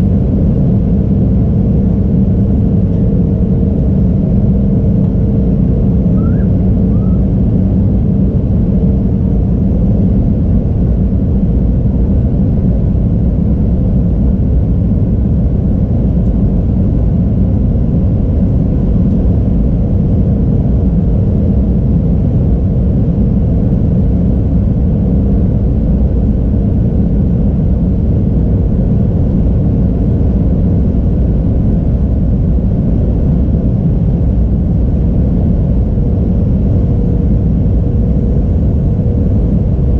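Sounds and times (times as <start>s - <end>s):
airliner engines and airflow rumble: 0.0s - 39.9s
faint steady hum: 0.0s - 39.9s.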